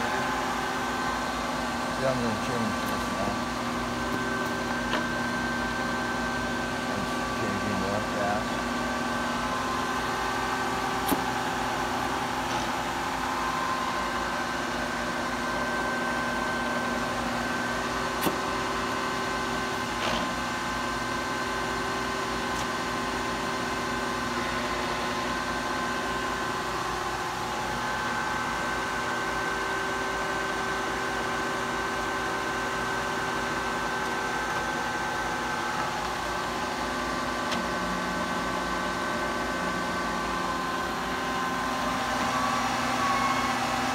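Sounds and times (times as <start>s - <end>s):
milling machine whine: 0.0s - 43.9s.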